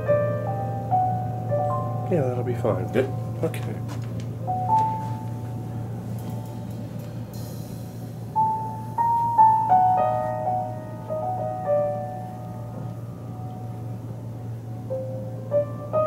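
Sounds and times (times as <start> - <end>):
piano notes from a record: 0.0 - 16.0
steady low hum: 0.0 - 16.0.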